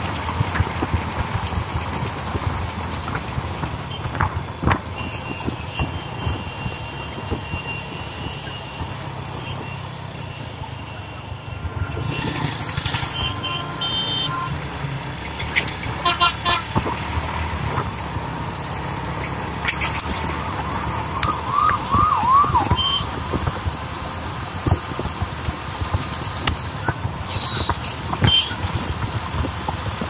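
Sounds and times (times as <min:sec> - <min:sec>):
passing traffic: 0:00.0 - 0:30.0
road and wind noise: 0:00.0 - 0:30.0.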